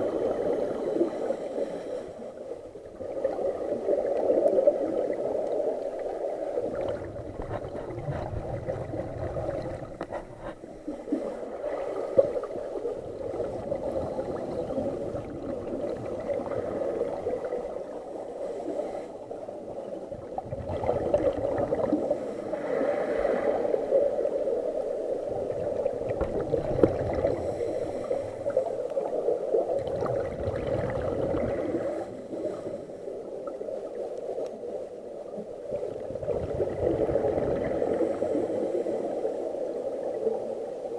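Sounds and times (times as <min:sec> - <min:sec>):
scuba exhaust bubbles gurgling: 0:00.0 - 0:40.9.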